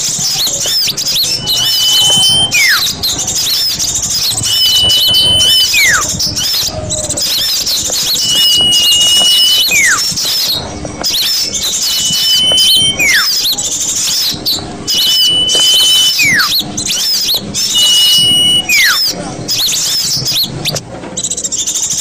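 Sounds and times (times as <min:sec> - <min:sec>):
high bird chirps chatter: 0:00.0 - 0:22.0
high bird whistles: 0:00.0 - 0:22.0.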